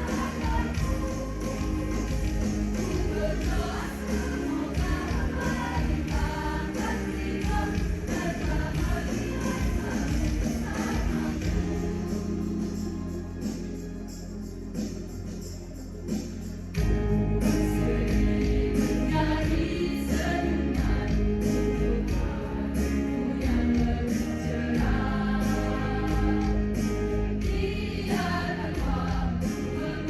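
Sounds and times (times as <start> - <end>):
choir singing a pop song: 0.0 - 14.2, 16.7 - 30.0.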